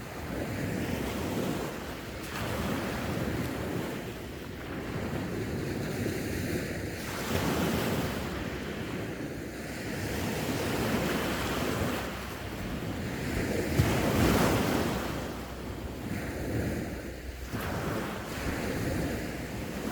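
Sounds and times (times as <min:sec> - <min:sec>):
sea waves breaking on shore: 0:00.0 - 0:19.9
wind on microphone: 0:00.0 - 0:19.9.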